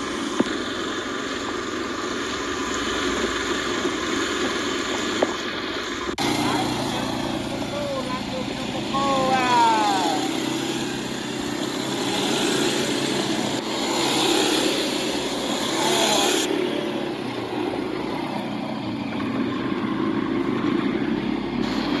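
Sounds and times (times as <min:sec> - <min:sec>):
quad bike engines running: 0:00.0 - 0:22.0.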